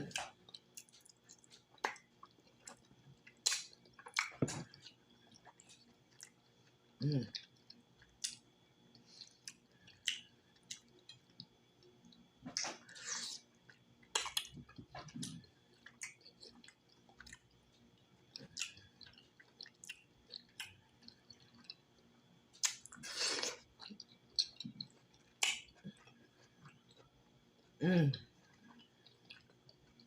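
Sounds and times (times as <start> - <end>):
wet chewing and smacking: 0.1 - 27.8, 28.4 - 30.0.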